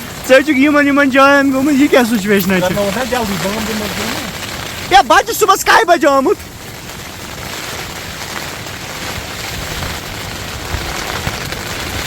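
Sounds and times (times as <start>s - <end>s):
heavy rain: 0.0s - 12.0s
low wind rumble: 0.0s - 12.0s.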